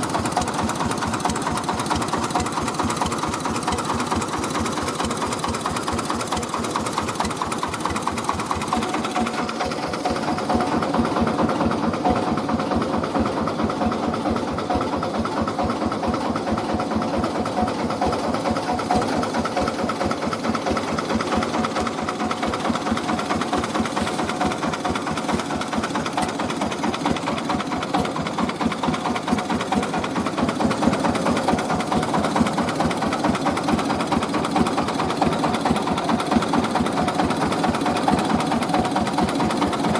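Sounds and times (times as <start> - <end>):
rice milling machine engine: 0.0 - 39.9.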